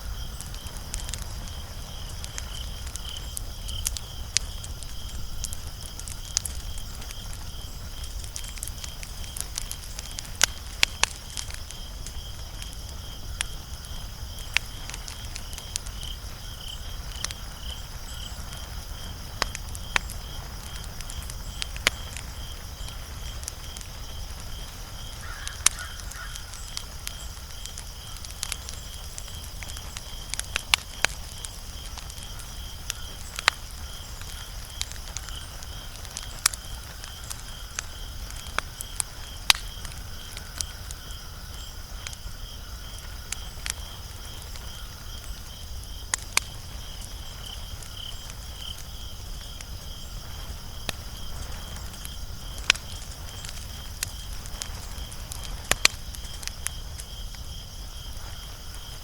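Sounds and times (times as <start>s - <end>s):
insect trill: 0.0s - 59.0s
wood fire crackling and popping: 0.0s - 59.0s.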